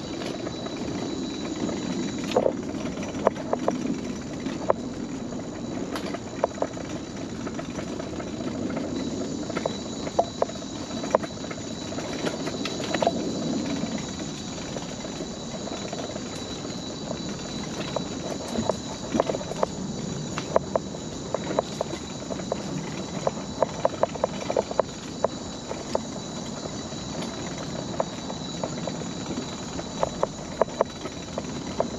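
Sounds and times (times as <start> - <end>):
wheels clacking over plank joints: 0.0 - 31.9
wheels rumbling on boardwalk: 0.0 - 31.9.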